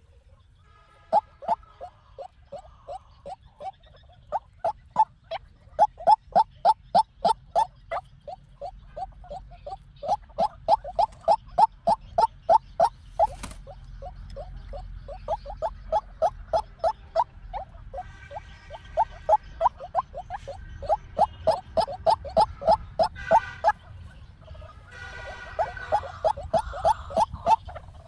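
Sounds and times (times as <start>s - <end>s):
waterhen calling low notes: 1.0s - 23.9s, 24.6s - 28.0s.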